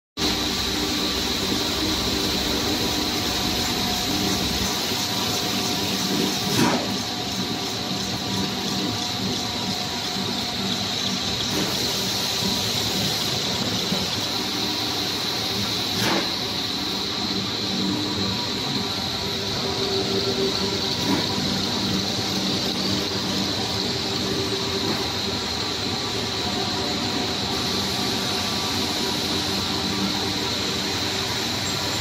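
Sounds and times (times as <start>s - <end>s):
extruder machine whine and hum: 0.2s - 32.0s.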